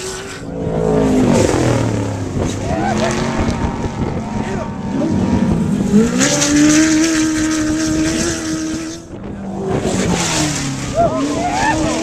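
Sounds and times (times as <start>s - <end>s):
race vehicle engine revving: 0.0s - 12.0s.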